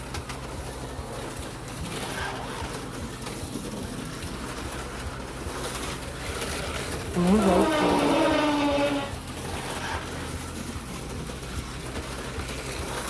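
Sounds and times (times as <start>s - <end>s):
cars rattling along plastic track: 0.0s - 13.0s
small electric motors whirring: 0.0s - 13.0s.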